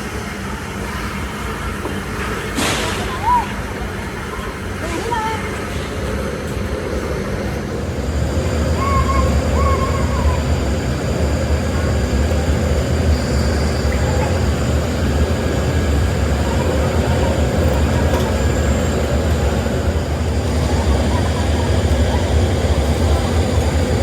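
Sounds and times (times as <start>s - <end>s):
workshop machinery rumbling: 0.0s - 24.0s.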